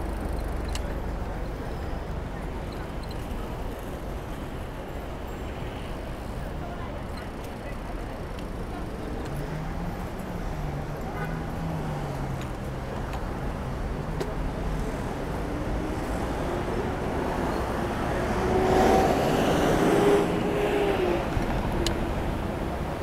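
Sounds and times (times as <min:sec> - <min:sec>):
traffic road noise: 0:00.0 - 0:23.0.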